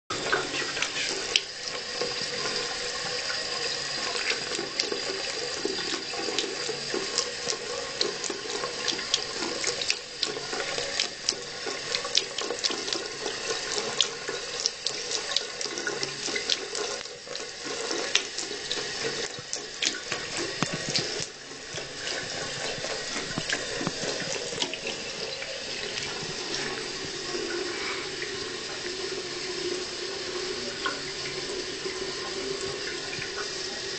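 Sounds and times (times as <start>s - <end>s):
cat lapping water: 0.1s - 33.8s
tap running into sink: 0.1s - 33.9s.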